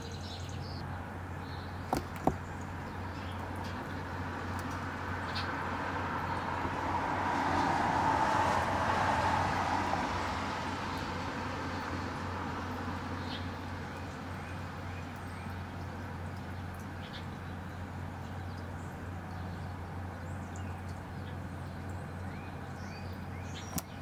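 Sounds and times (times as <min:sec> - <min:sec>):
distant vehicle passing: 0:00.0 - 0:24.0
outdoor background hum: 0:00.0 - 0:24.0.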